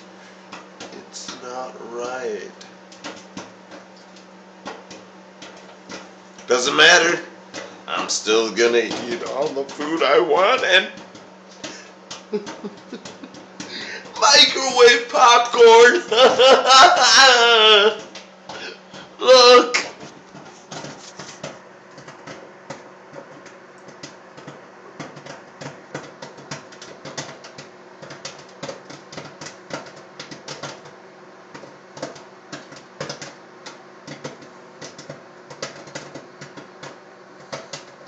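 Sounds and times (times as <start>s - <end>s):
microwave oven hum: 0.0s - 38.0s
popcorn popping: 0.0s - 38.0s.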